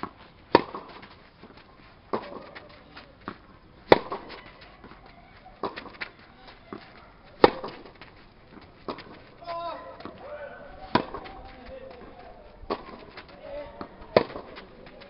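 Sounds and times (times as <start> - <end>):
racket hitting tennis ball: 0.0 - 15.0
tennis ball bouncing: 0.0 - 15.0.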